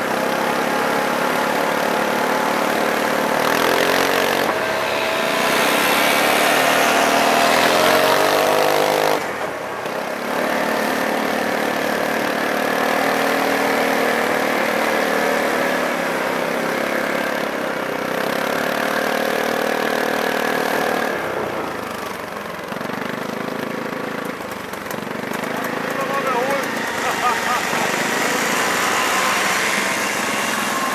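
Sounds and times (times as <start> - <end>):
motorcycle engines accelerating: 0.0 - 30.9.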